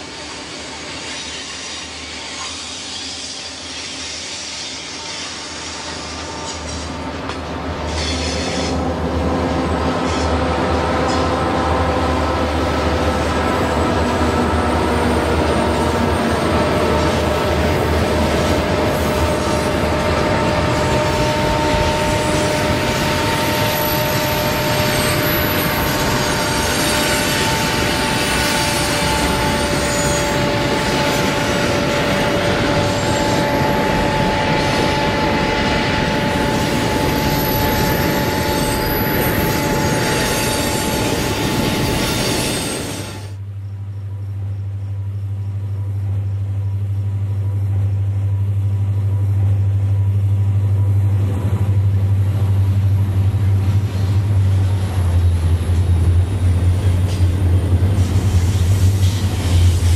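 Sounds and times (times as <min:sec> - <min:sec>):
model train passing: 0:00.0 - 0:59.9.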